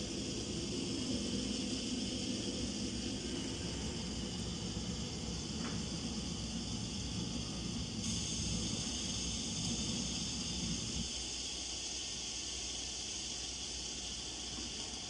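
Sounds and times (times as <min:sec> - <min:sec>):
kettle hissing on stove: 0:00.0 - 0:15.0.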